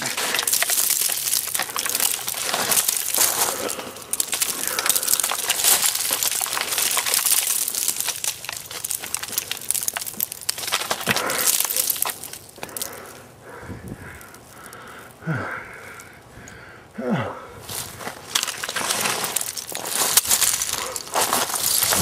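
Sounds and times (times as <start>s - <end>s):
footsteps crunching icy grass and leaves: 0.0s - 15.2s, 17.6s - 22.0s.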